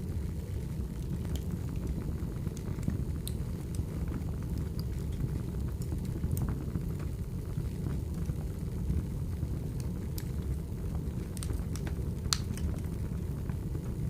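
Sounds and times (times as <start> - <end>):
firewood crackling and popping: 0.0 - 14.0
low steady rumble: 0.0 - 14.0.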